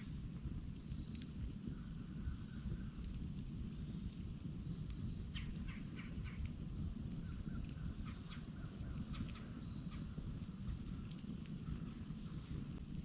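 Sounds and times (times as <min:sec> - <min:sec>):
campfire burning and crackling: 0:00.0 - 0:13.0.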